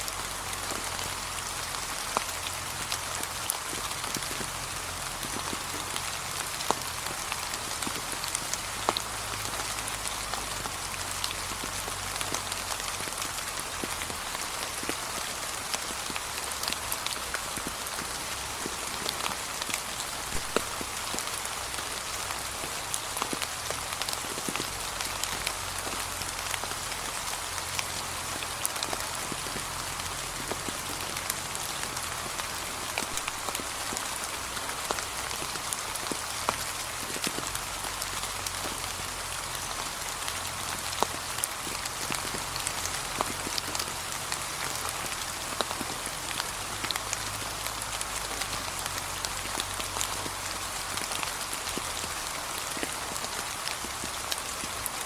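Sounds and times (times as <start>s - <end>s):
rain on fallen leaves: 0.0s - 55.0s.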